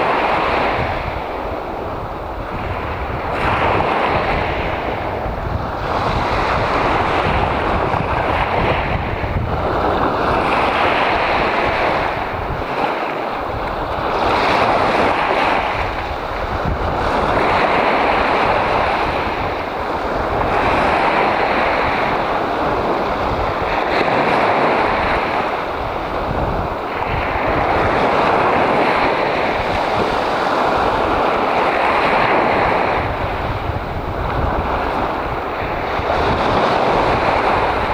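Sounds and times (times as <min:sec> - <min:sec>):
small waves breaking on beach: 0:00.0 - 0:37.9.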